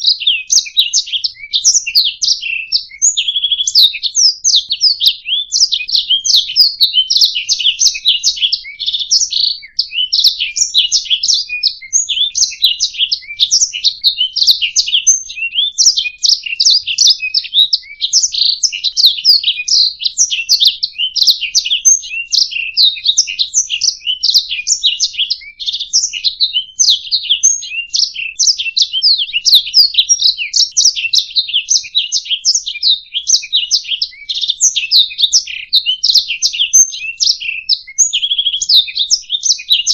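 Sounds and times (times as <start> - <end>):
canary chirping and trilling: 0.0 - 39.9.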